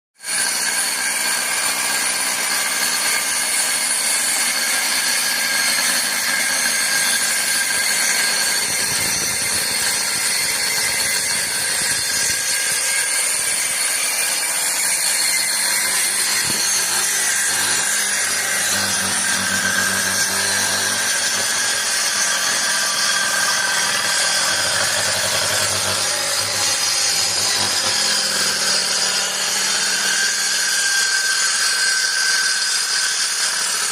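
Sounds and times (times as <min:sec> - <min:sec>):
woodworking power tool whining: 0:00.2 - 0:33.9.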